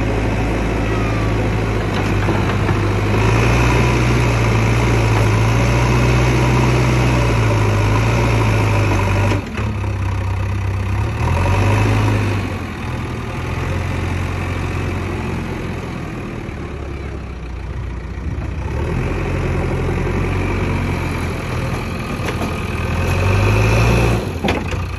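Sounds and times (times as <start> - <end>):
diesel engine running under load: 0.0 - 24.9.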